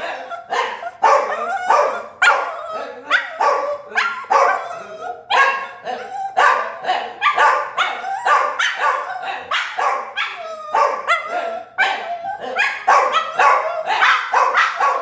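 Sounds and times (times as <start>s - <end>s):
dog barking excitedly: 0.0s - 15.0s.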